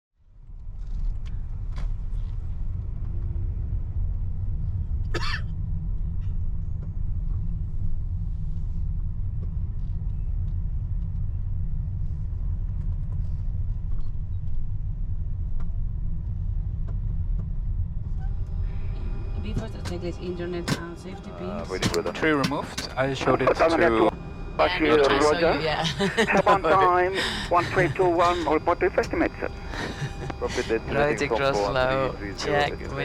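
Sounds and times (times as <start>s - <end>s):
low cockpit rumble: 0.2s - 33.0s.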